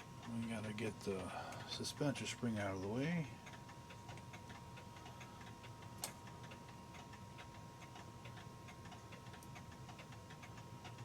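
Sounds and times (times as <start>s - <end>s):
faint steady whine: 0.0s - 11.0s
mechanical clocks ticking: 0.0s - 11.0s.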